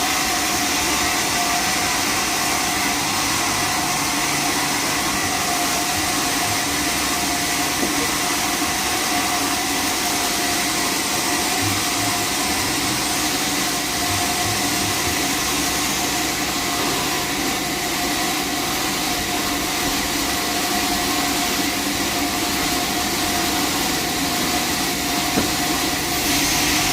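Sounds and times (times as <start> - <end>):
sawmill machinery hum and whine: 0.0 - 26.9.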